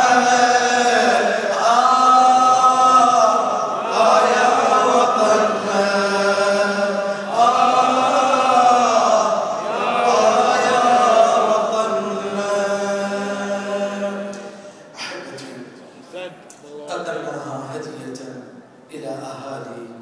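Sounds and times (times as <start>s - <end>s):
man chanting over loudspeakers: 0.0s - 15.8s, 16.8s - 20.0s.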